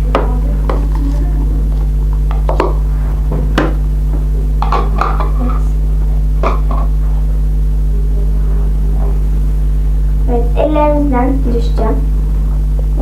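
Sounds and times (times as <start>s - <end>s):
loud electrical hum: 0.0s - 13.0s.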